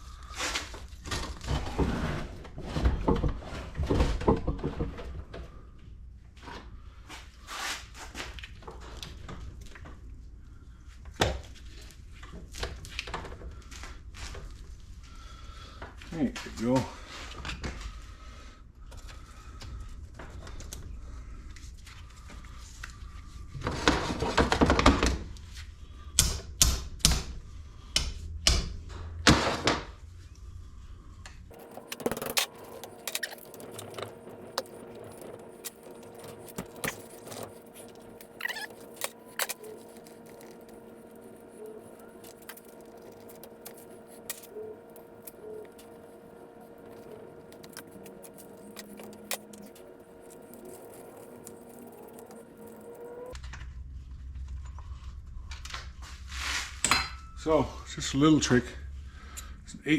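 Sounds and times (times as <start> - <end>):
faint steady hum: 8.4 - 59.9.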